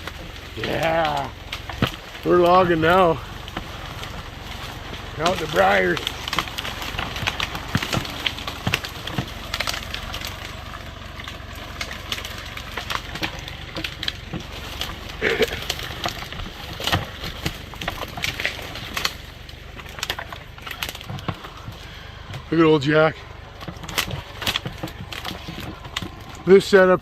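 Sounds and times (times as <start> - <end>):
sticks and brush snapping: 0.0 - 27.0
tractor engine droning: 0.0 - 27.0.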